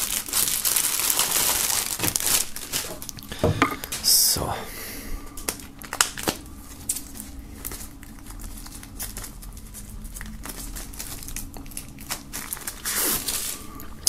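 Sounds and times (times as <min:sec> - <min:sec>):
packaging crinkling: 0:00.0 - 0:04.5, 0:05.2 - 0:14.0.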